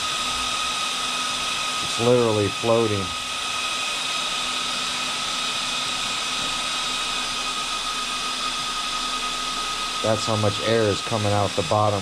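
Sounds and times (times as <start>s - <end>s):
cooling fans whining: 0.0s - 12.0s.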